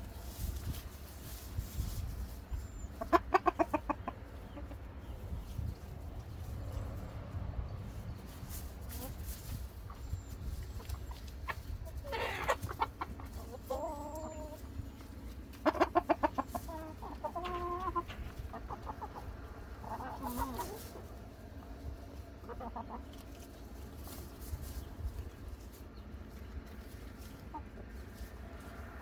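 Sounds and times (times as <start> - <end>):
chickens clucking and calling: 0.0 - 29.0.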